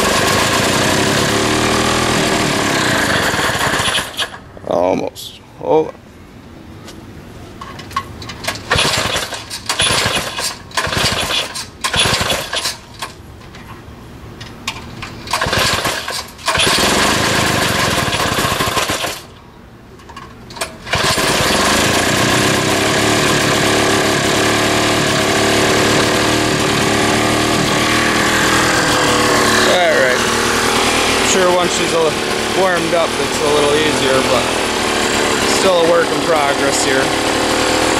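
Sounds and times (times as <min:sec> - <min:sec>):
small gas engine starting: 0:00.0 - 0:04.4, 0:08.5 - 0:13.2, 0:15.1 - 0:19.4, 0:20.5 - 0:37.9.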